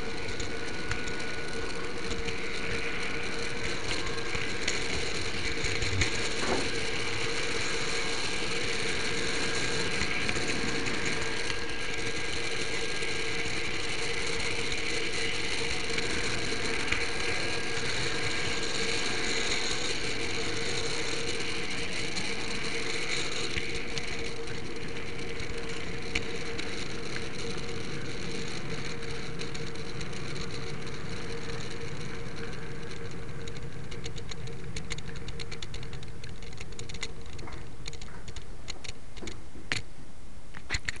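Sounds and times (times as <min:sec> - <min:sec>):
locomotive motor whirring: 0:00.0 - 0:39.9
model train wheels whirring on rails: 0:00.0 - 0:41.0.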